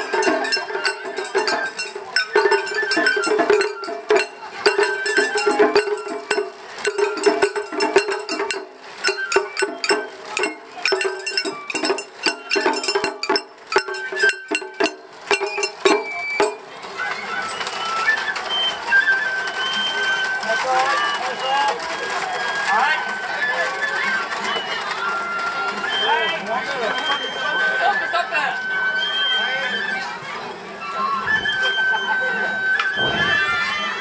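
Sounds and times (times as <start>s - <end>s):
drums in quick patterns: 0.0s - 27.8s
bamboo flute melody: 0.0s - 34.0s
crowd noise: 0.0s - 34.0s.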